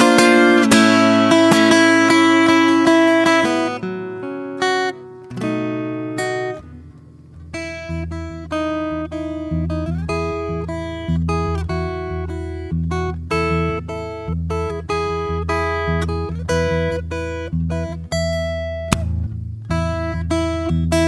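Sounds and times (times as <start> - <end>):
solo acoustic guitar: 0.0 - 21.0.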